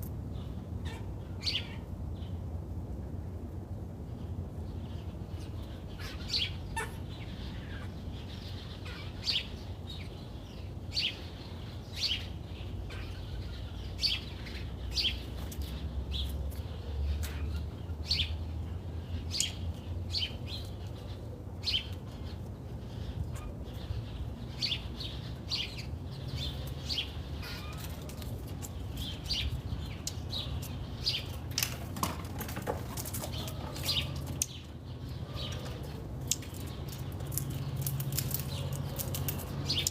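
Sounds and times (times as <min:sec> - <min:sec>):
small birds chirping: 0:00.0 - 0:02.5, 0:04.0 - 0:39.9.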